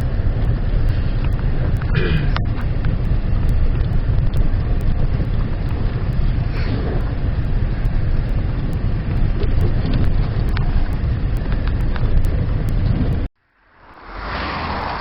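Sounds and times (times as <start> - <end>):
car engine under load: 0.0 - 15.0
tyre and drivetrain noise: 0.0 - 15.0.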